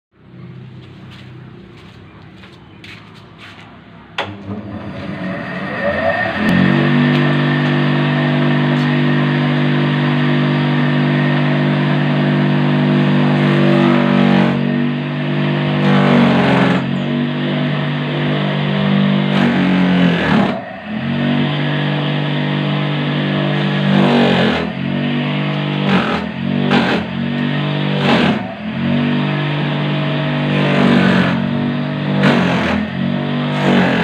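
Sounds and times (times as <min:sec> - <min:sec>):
motor humming: 0:06.3 - 0:34.0.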